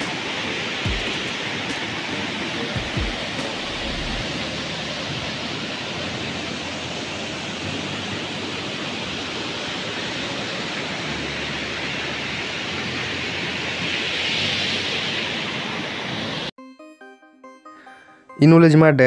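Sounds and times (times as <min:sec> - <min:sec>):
waterfall rushing: 0:00.0 - 0:16.5.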